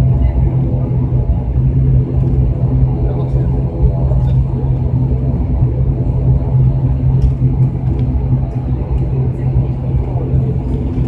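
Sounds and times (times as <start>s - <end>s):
airliner engines humming in cabin: 0.0s - 11.0s.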